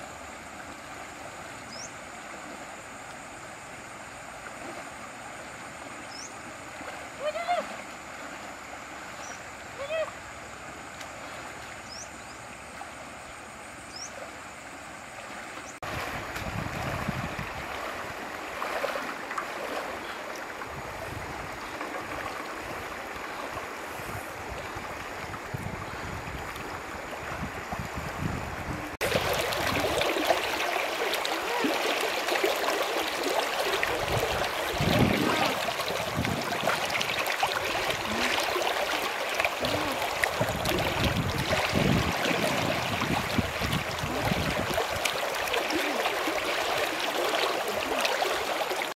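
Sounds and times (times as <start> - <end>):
shallow river rippling over stones: 0.0 - 48.9.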